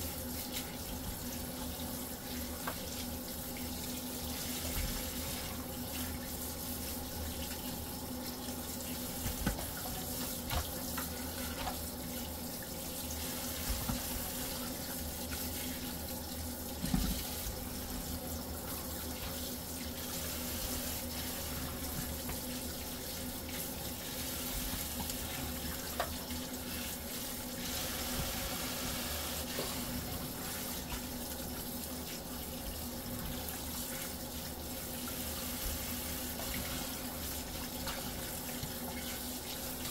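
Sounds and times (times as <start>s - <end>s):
tap water running into sink: 0.3s - 39.9s.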